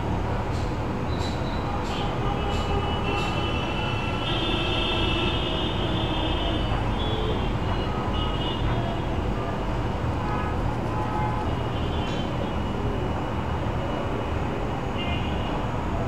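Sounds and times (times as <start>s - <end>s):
heavy road traffic rumble: 0.0s - 16.0s.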